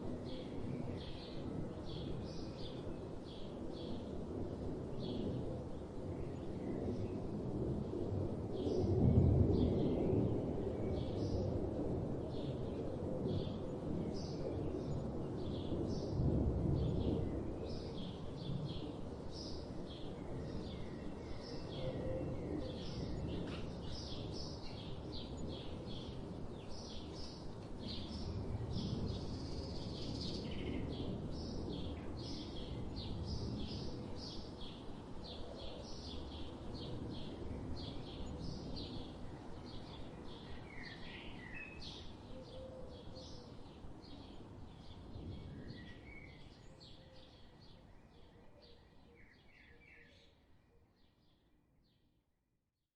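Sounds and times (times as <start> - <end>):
songbirds chirping: 0.1 - 52.0.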